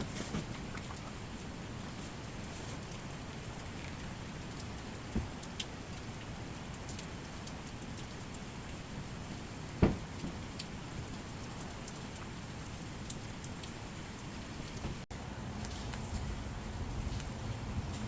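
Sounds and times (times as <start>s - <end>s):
firewood crackling: 0.0s - 18.0s.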